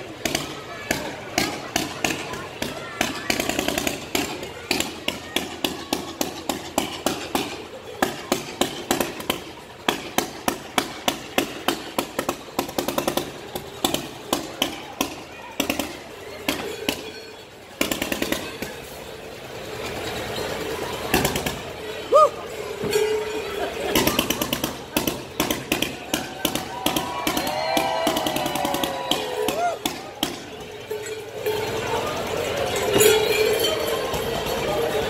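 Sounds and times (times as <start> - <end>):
crowd voices: 0.0 - 35.0
bells clanging: 3.4 - 35.0.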